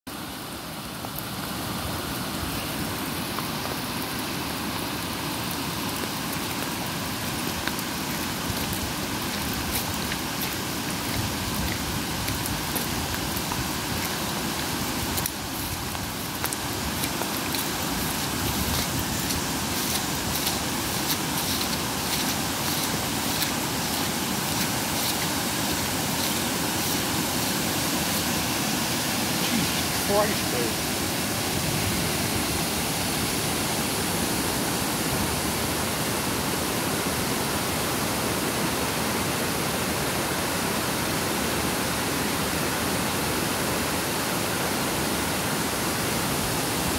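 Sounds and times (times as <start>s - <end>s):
floodwater rushing: 0.1s - 46.9s.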